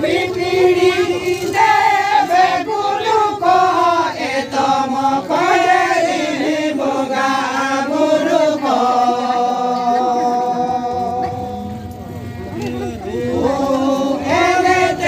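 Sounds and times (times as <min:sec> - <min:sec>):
group singing: 0:00.0 - 0:15.0
harmonium: 0:00.0 - 0:15.0.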